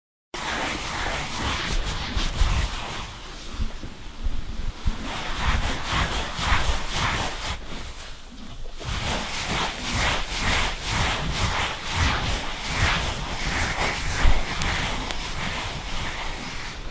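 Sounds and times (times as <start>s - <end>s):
grooming brush rasping on horse coat: 0.4s - 3.8s, 4.8s - 16.9s.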